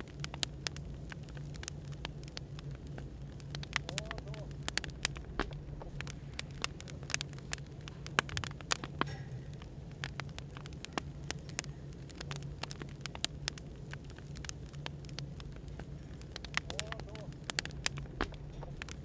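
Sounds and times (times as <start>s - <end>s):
low background hum: 0.0s - 19.0s
wood fire crackling: 0.0s - 19.0s.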